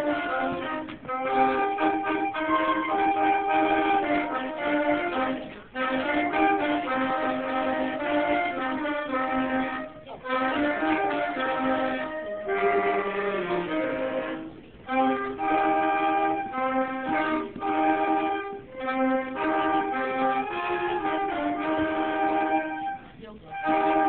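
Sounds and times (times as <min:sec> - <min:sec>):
violin ensemble playing: 0:00.0 - 0:24.0.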